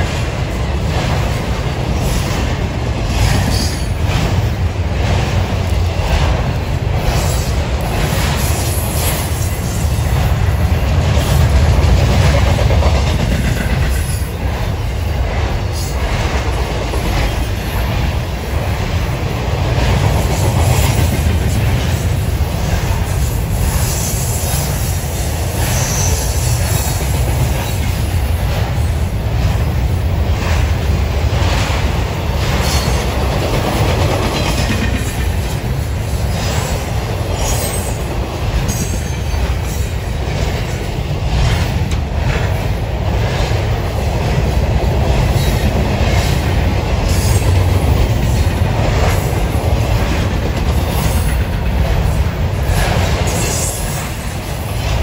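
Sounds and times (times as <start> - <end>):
freight train low rumble: 0.0 - 55.0.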